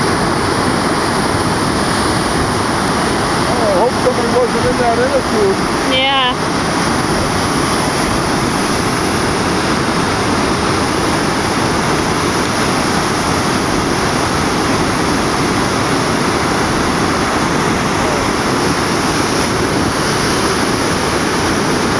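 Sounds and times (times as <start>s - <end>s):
river water rushing: 0.0s - 21.9s.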